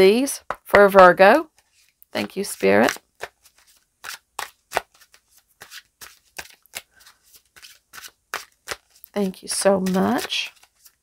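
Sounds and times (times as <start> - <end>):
cards being shuffled: 1.5 - 11.0.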